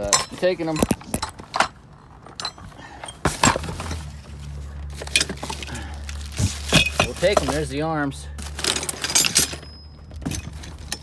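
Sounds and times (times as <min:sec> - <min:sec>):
metal door hardware clinking: 0:00.0 - 0:07.8, 0:08.4 - 0:11.0
steady low hum: 0:00.0 - 0:11.0.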